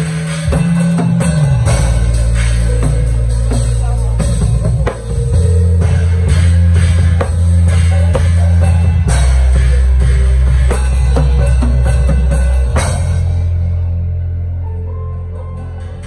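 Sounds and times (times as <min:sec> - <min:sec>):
drum kit with cymbals: 0:00.0 - 0:14.4
held deep bass notes: 0:00.0 - 0:16.0.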